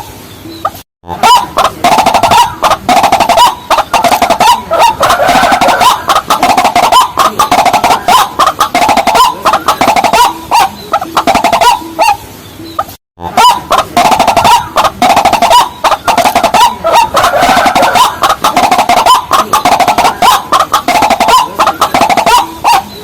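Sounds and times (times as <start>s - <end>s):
waterhen calls: 0.0s - 23.0s.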